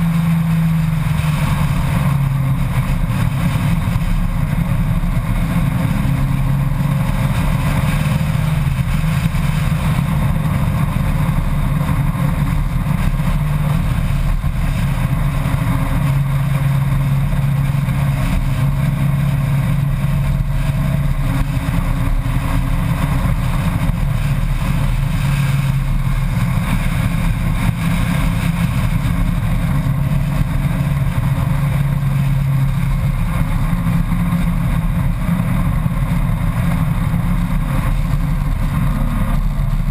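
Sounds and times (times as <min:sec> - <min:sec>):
motorcycle engine drone: 0:00.0 - 0:39.9
wind noise: 0:00.0 - 0:39.9.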